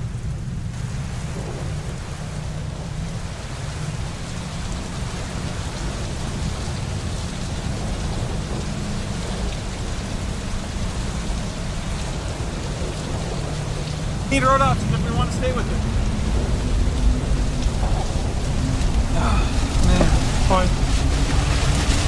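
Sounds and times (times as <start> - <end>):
deep rumble: 0.0 - 22.0
rain and wind rushing: 0.0 - 22.0.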